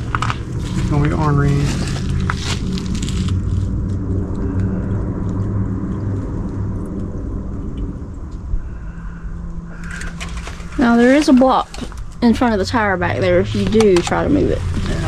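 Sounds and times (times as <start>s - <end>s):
truck engine running: 0.0s - 8.5s, 9.8s - 15.0s.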